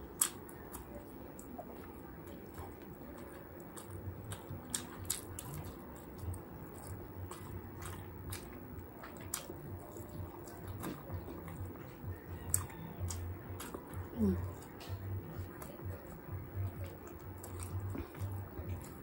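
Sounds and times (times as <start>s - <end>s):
chewing with wet mouth clicks: 0.0s - 19.0s.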